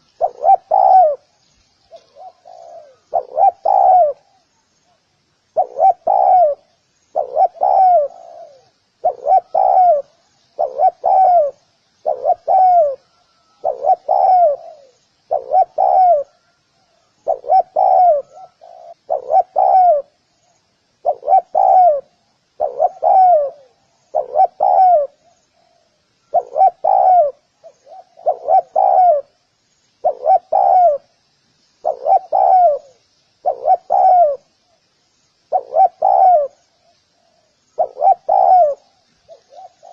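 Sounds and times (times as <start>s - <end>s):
dove cooing: 0.0s - 4.5s, 5.5s - 20.2s, 21.0s - 29.4s, 30.0s - 31.1s, 31.8s - 34.6s, 35.5s - 39.9s.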